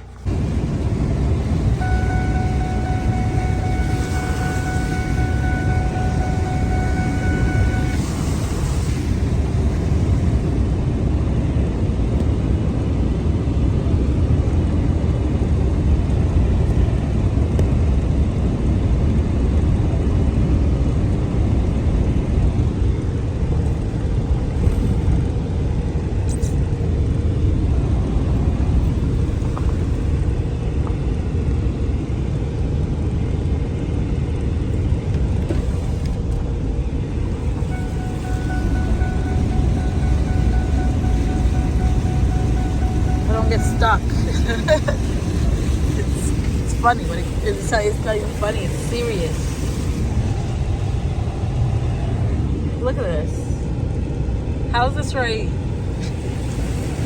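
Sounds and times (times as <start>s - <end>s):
wind buffeting microphone: 0.0s - 54.7s.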